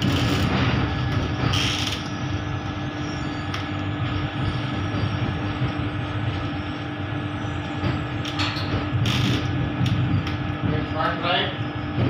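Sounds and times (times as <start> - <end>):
electric train rumble: 0.0 - 12.0
steady hum: 0.0 - 12.0.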